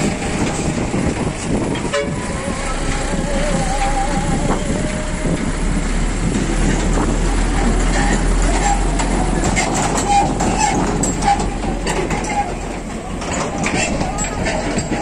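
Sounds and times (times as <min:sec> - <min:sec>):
faint voices: 0:00.0 - 0:15.0
vehicle engine rumbling: 0:00.0 - 0:15.0.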